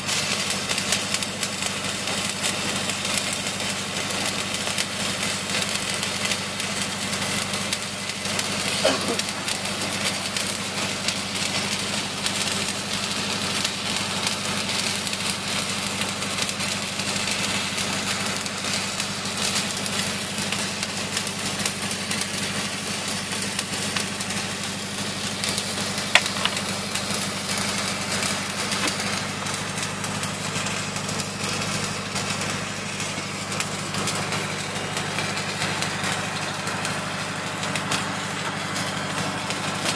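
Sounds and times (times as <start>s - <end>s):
engine idling: 0.0s - 39.9s
welding arc crackling and hissing: 0.0s - 39.9s.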